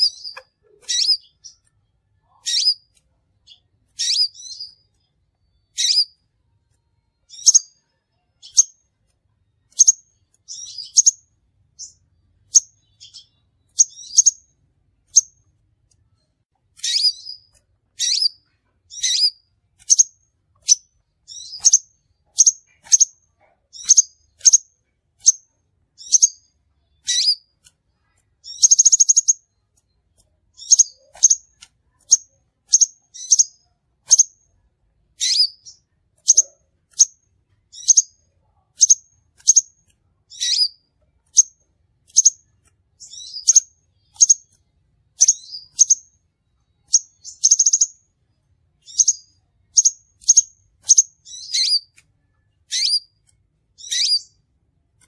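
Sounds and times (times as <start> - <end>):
buzzy bird trill: 0.0 - 6.2, 7.2 - 8.9, 9.7 - 15.5, 16.8 - 29.7, 30.5 - 34.4, 35.2 - 46.2, 46.8 - 48.1, 48.8 - 52.0, 52.6 - 54.5
bird chirping: 0.0 - 55.0.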